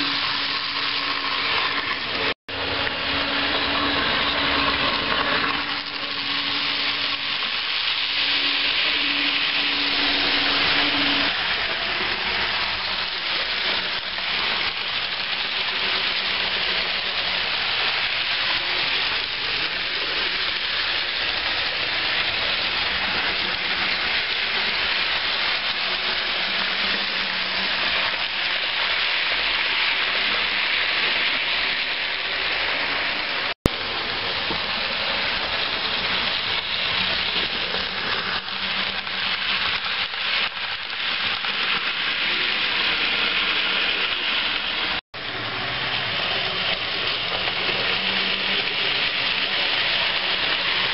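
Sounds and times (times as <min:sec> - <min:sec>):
model train wheels on rails: 0:00.0 - 0:50.9.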